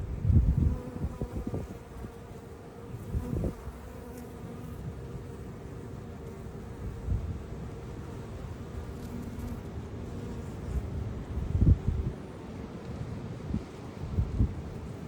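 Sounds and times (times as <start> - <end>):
bees buzzing: 0.0 - 13.2.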